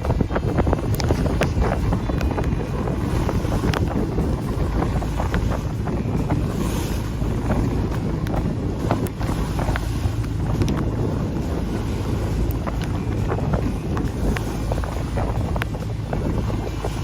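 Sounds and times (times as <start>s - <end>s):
rushing water and waves: 0.0s - 17.0s
wind buffeting microphone: 0.0s - 17.0s.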